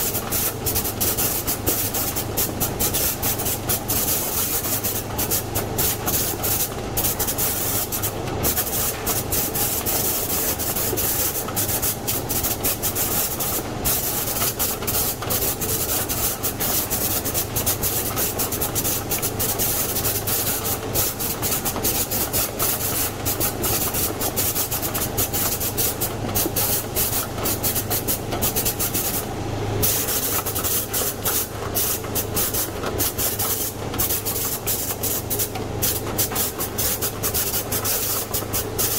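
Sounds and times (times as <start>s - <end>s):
sorting machine conveyor running: 0.0s - 38.9s.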